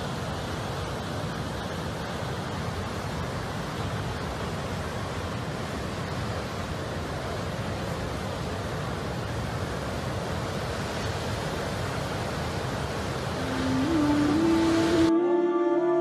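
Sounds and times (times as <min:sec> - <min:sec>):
surf washing onto rocks: 0:00.0 - 0:15.4
wind: 0:00.0 - 0:16.0.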